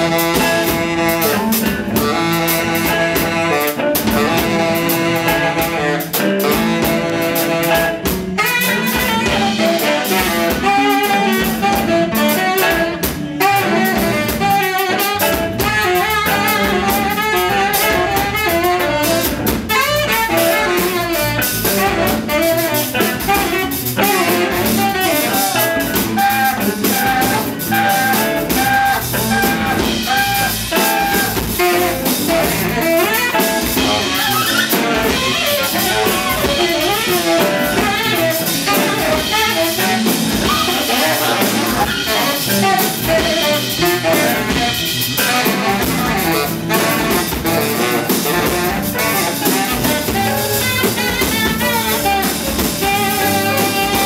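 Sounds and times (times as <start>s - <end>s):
drum kit: 0.0s - 54.0s
electric bass: 0.0s - 54.0s
electric guitar: 0.0s - 54.0s
saxophone: 0.0s - 54.0s.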